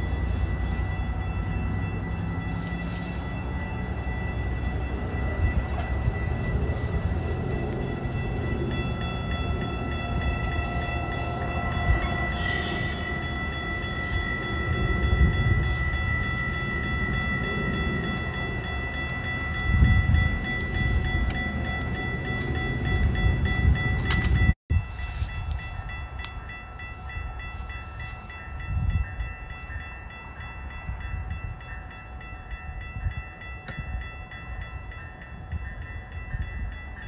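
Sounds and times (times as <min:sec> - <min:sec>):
train rumbling on tracks: 0:00.0 - 0:37.0.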